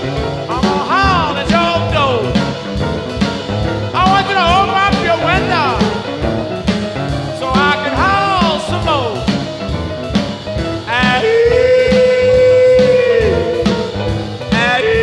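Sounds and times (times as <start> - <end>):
electric blues band: 0.0 - 15.0
sliding bending lead guitar notes: 0.0 - 15.0
steady drum beat: 0.0 - 15.0.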